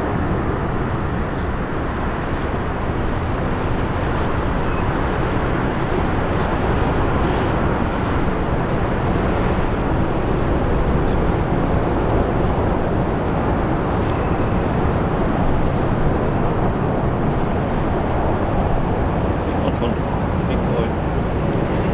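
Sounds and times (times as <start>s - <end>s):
jet engine rumble: 0.0s - 21.9s.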